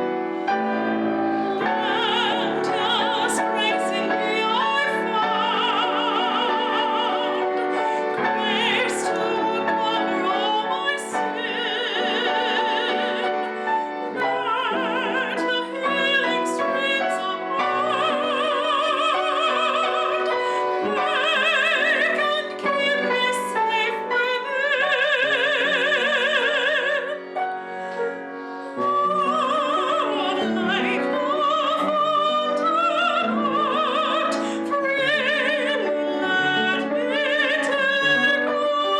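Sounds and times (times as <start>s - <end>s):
piano accompaniment: 0.0s - 38.9s.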